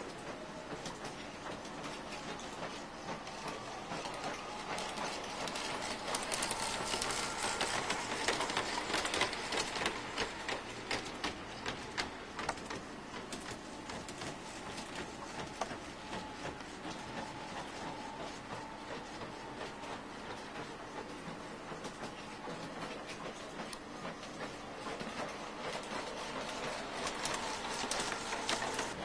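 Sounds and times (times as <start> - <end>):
light mechanical clicks and clatter: 0.0 - 29.0.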